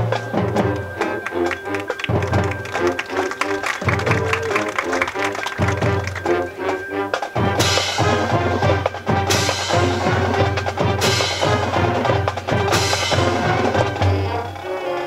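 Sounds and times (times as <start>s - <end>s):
school band playing: 0.0s - 15.0s.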